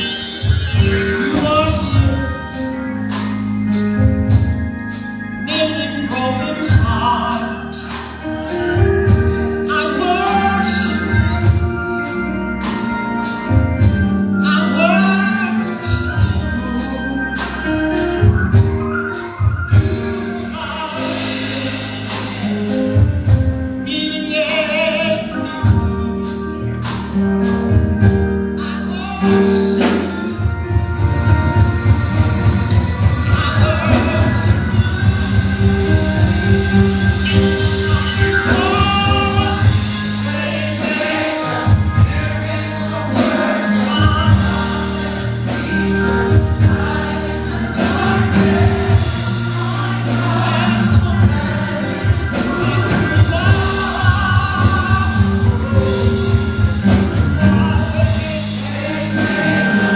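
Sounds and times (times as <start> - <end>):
drum beat and bass: 0.0 - 14.5, 15.6 - 28.6, 29.2 - 59.9
gospel singing voices: 0.0 - 59.9.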